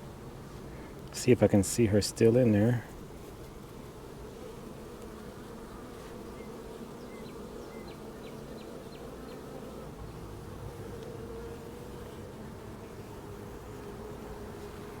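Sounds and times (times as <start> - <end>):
honeybee colony buzzing: 0.0 - 15.0.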